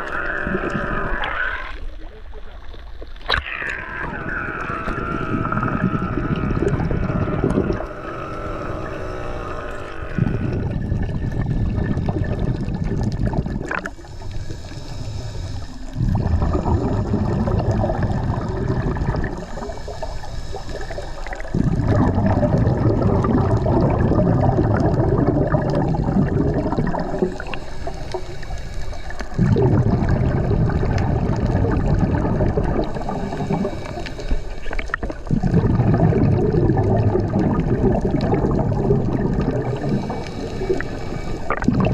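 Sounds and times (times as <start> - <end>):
bubbles gurgling: 0.0 - 41.9
diver breathing through regulator: 3.7 - 35.3, 38.4 - 41.9.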